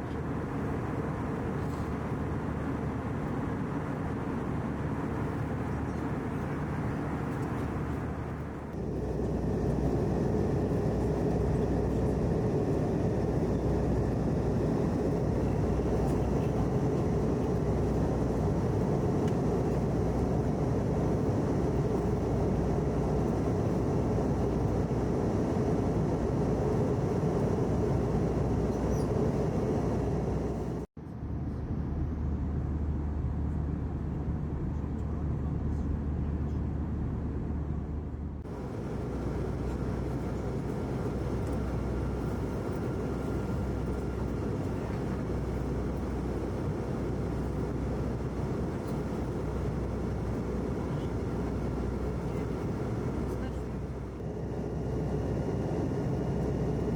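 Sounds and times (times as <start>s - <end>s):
airliner cabin noise: 0.0s - 30.9s, 38.4s - 56.9s.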